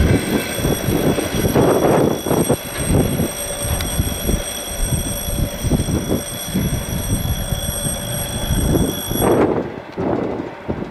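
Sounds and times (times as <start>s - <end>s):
diesel locomotive rumbling: 0.0s - 10.9s.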